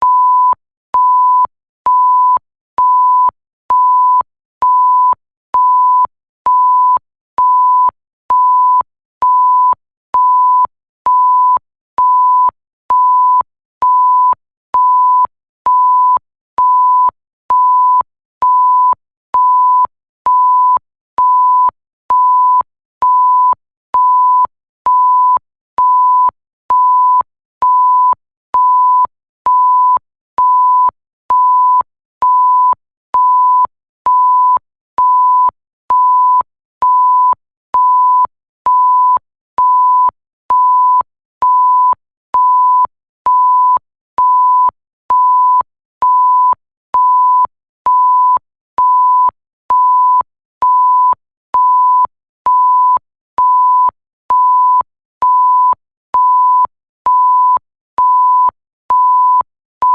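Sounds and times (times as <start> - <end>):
censor bleep tone: 0.0 - 59.9.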